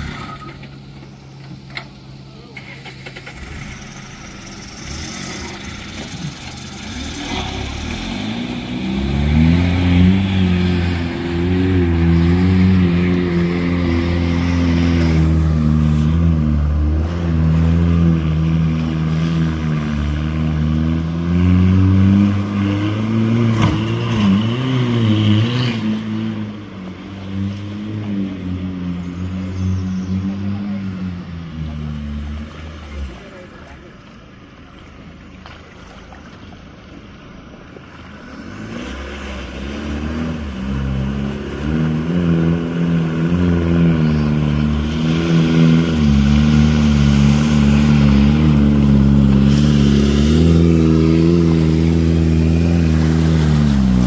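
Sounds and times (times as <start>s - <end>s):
off-road vehicle engine revving: 0.0s - 34.6s, 35.8s - 54.0s.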